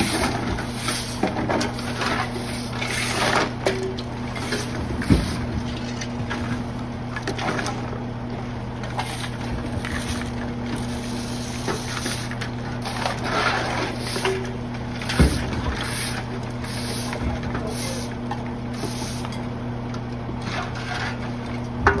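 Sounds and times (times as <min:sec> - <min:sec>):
garbage truck mechanical hum: 0:00.0 - 0:22.0.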